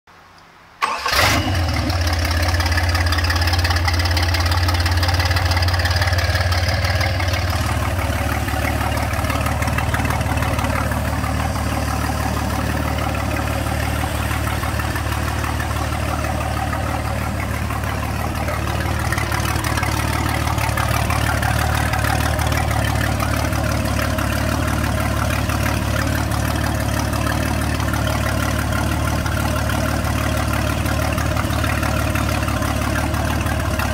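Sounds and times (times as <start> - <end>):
boat engine idling: 0.8 - 33.9.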